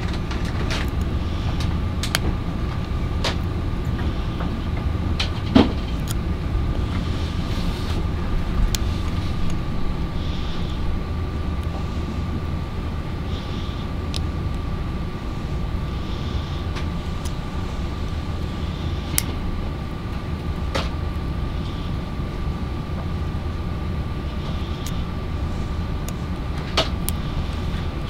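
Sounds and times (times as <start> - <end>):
faint high whine: 0.0 - 28.0
steady low hum: 0.0 - 28.0.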